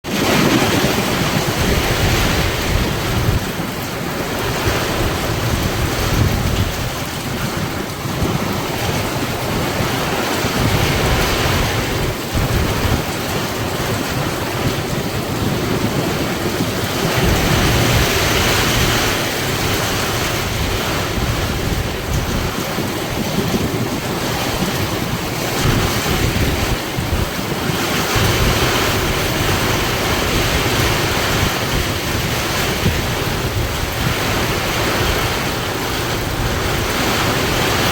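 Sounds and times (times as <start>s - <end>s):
heavy rain pouring: 0.0s - 37.9s
wind buffeting microphone: 0.0s - 37.9s.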